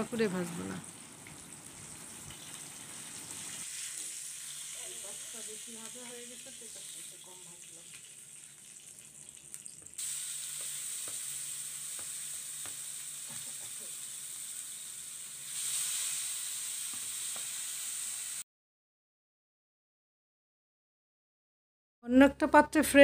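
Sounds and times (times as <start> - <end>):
fish sizzling in hot oil: 0.0 - 18.4.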